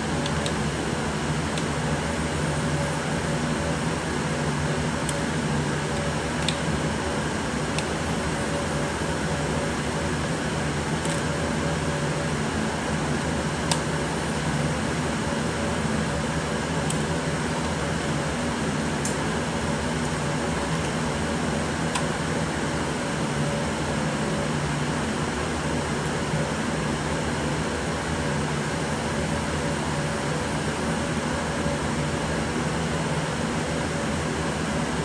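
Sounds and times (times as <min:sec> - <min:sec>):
fans whirring with hum: 0:00.0 - 0:35.0.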